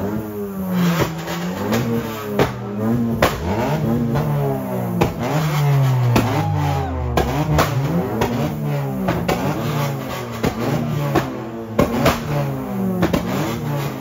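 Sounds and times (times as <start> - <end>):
vehicle engines revving: 0.0 - 14.0.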